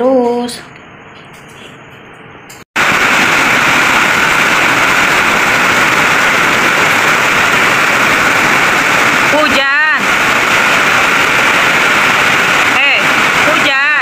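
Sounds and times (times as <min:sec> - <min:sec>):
heavy rain: 0:02.8 - 0:14.0.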